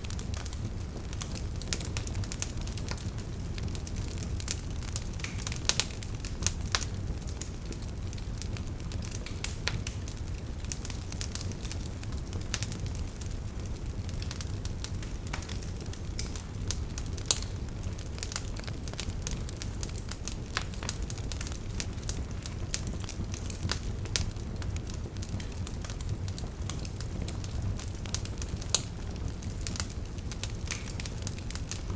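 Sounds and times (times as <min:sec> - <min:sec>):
campfire crackles and pops: 0:00.0 - 0:31.9
low rumble of flames: 0:00.0 - 0:31.9.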